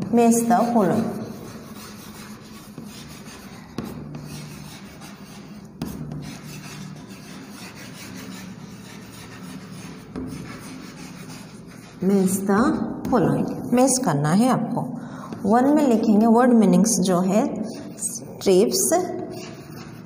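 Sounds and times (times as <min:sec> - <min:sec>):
chalk scratching on blackboard: 0:00.0 - 0:14.0, 0:17.1 - 0:20.0.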